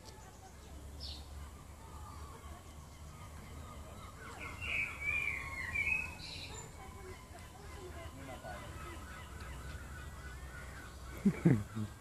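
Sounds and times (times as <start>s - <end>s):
high wavering bird cries: 0.2s - 12.0s.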